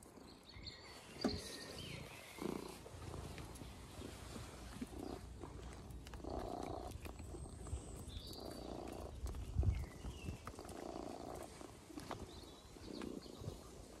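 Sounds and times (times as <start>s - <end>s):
pet rumbling: 0.0s - 14.0s.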